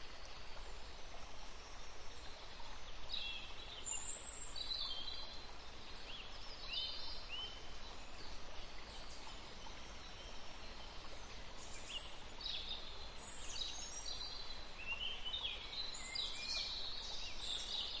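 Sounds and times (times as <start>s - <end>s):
songbirds chirping: 0.0s - 18.0s
steady background hiss: 0.0s - 18.0s.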